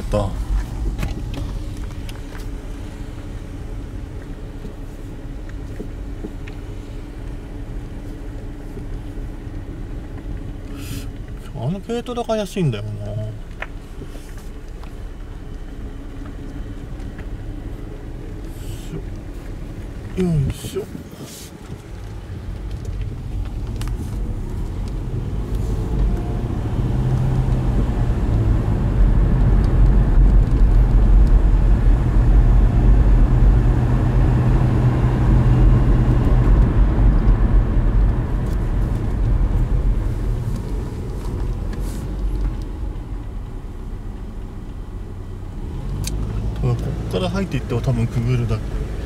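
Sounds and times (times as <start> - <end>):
vehicle engine hum: 0.0 - 49.0.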